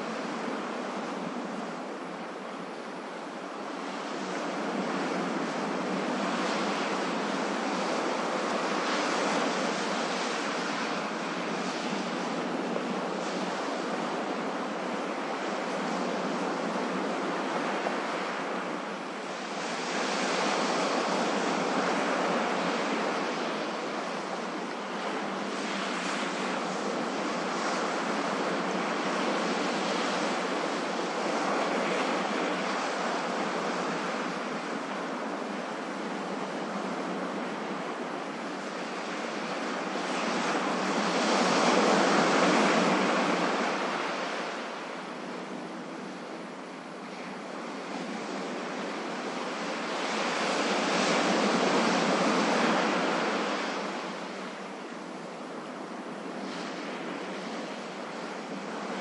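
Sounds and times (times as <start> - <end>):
ocean waves washing: 0.0 - 59.0.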